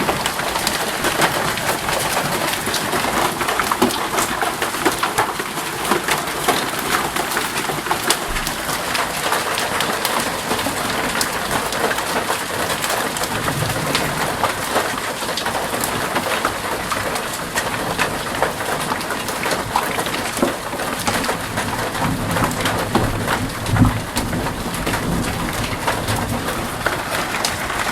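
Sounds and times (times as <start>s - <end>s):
hail clattering on hard surfaces: 0.0s - 27.9s.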